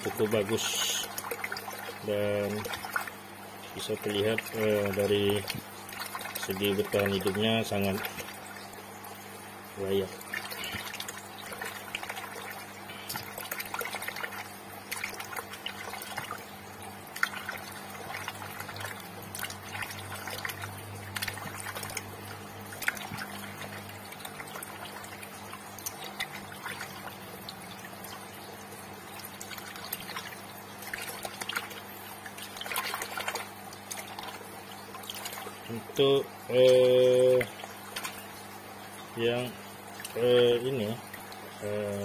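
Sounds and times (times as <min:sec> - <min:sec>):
low steady hum: 0:00.0 - 0:42.0
water splashing in plastic tub: 0:00.0 - 0:42.0.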